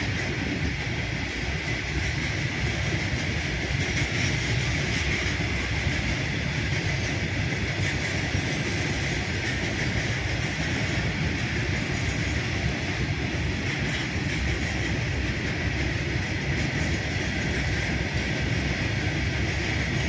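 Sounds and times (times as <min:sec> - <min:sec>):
freight train rolling on rails: 0:00.0 - 0:20.0.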